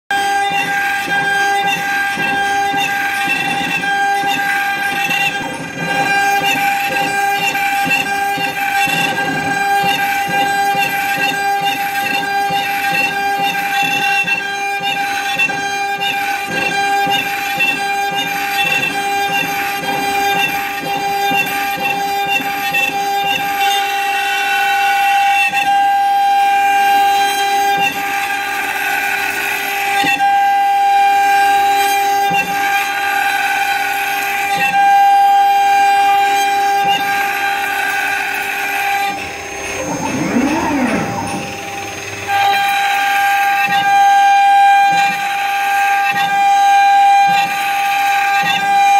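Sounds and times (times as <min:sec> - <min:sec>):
bit cutting wood: 0:00.1 - 0:48.9
router spindle whining: 0:00.1 - 0:48.9.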